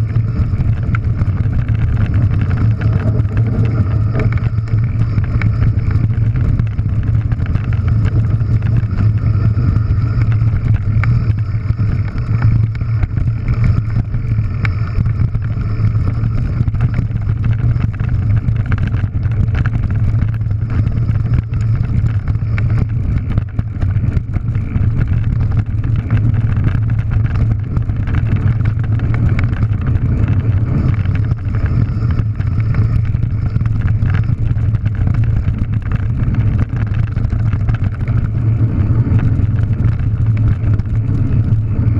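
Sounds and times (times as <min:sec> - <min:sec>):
stones and bike rattling: 0:00.0 - 0:41.9
tyres rumbling on gravel: 0:00.0 - 0:41.9
wind on microphone: 0:00.0 - 0:41.9.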